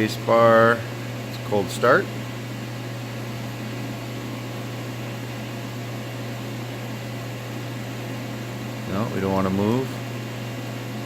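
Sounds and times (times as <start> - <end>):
fan-like hiss: 0.0 - 11.0
low electrical hum: 0.0 - 11.0.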